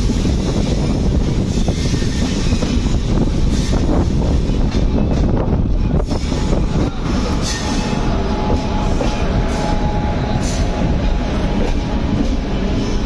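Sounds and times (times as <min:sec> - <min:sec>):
rail clicks: 0:00.0 - 0:13.0
train wheels rumbling on track: 0:00.0 - 0:13.0.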